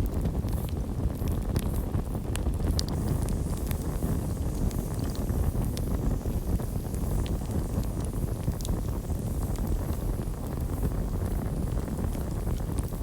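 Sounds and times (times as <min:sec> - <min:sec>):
campfire flames rumbling: 0:00.0 - 0:13.0
fire crackling and popping: 0:00.0 - 0:13.0.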